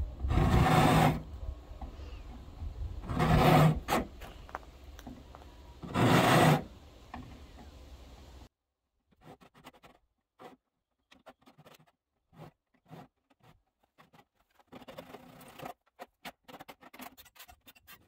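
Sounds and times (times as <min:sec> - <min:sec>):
hands scraping metal downspout: 0:00.2 - 0:07.7, 0:09.1 - 0:18.0.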